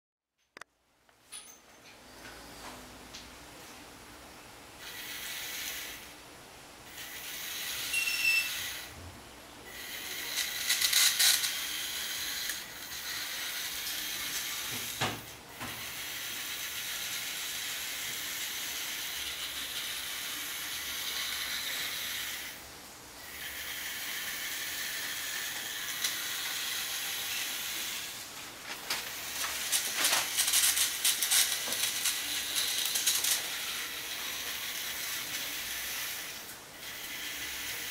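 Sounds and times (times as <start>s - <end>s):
electric motors whirring: 4.8s - 6.1s, 6.8s - 22.6s, 23.2s - 37.9s.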